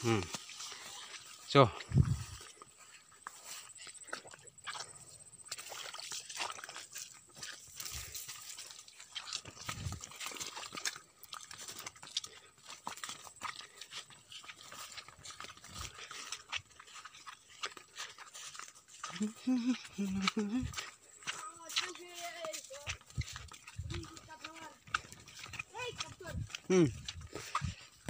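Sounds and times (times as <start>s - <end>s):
footsteps on muddy path: 0.0s - 28.0s.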